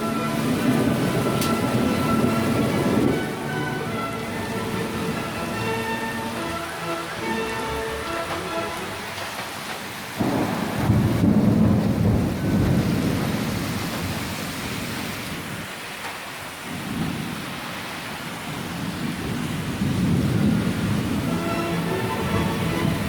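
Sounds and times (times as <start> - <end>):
thunder rumbling: 0.0 - 15.8, 16.4 - 23.0
steady rain: 0.0 - 23.0.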